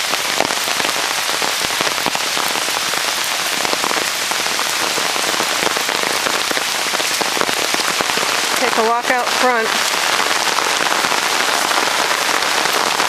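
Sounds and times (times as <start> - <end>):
heavy rain on wet ground: 0.0 - 13.0.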